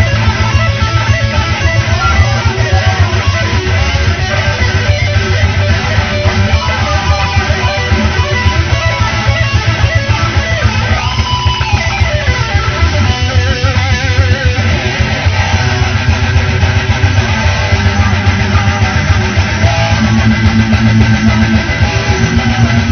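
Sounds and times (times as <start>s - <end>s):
bass and drum beat: 0.0s - 22.9s
electric guitar strumming: 0.0s - 22.9s
rock music: 0.0s - 22.9s
sliding lead guitar melody: 0.0s - 22.9s.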